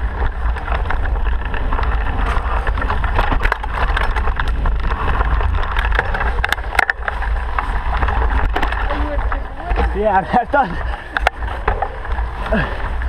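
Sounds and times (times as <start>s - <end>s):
vehicle rumbling: 0.0s - 13.0s
wind noise on microphone: 0.0s - 13.0s.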